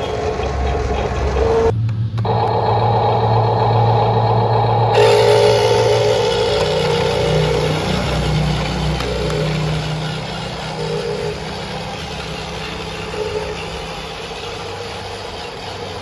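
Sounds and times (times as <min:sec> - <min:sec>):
low hum: 0:00.0 - 0:16.0
motor running: 0:00.0 - 0:16.0.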